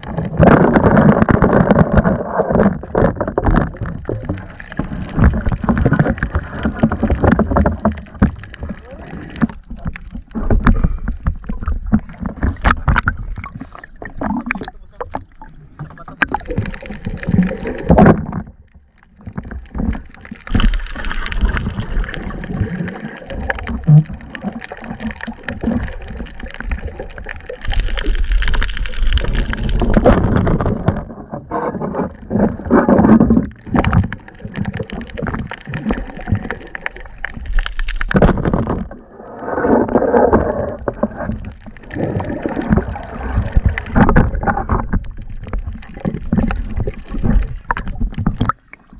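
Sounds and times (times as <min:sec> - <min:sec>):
water sloshing and gurgling: 0:00.0 - 0:48.9.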